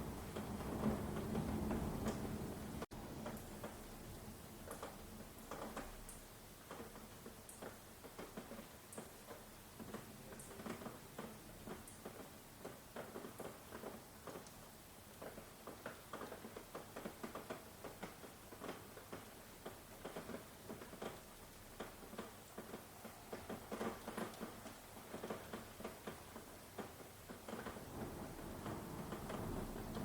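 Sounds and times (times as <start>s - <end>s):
raindrops pattering: 0.0s - 30.0s.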